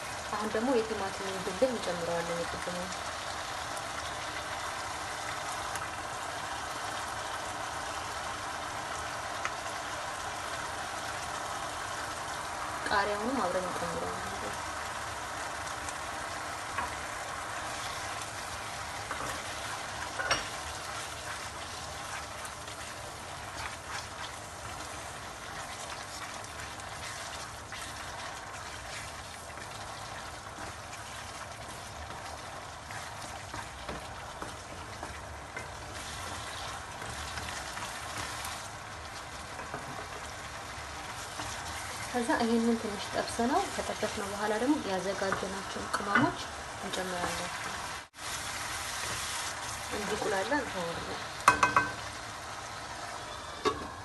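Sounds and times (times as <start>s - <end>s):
sauce frying in a pan: 0.0s - 54.0s.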